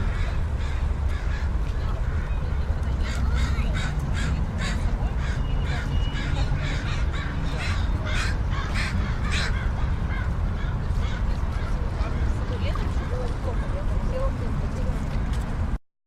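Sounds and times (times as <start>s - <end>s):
crows cawing: 0.0s - 13.1s
low rumble of beach ambience: 0.0s - 15.8s.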